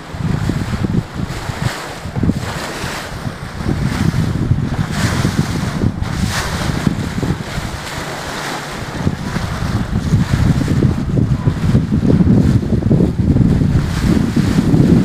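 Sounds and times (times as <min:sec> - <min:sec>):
sea water rushing alongside boat: 0:00.0 - 0:15.0
wind buffeting microphone: 0:00.0 - 0:15.0.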